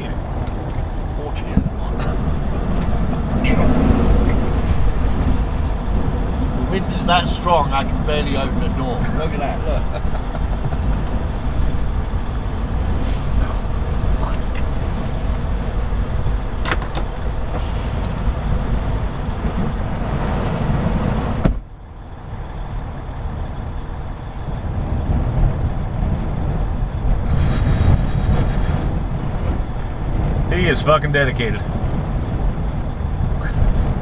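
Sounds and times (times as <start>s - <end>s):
strong gusting wind: 0.0s - 34.0s.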